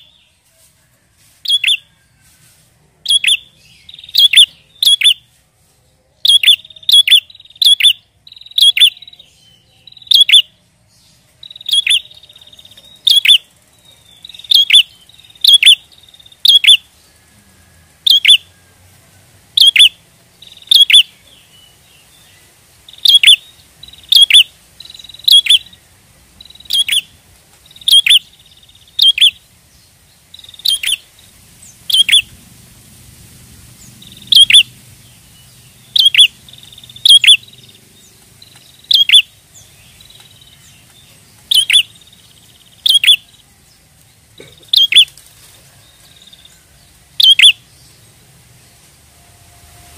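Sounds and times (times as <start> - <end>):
bird chirping: 0.0 - 0.5, 1.4 - 2.3, 3.0 - 48.9.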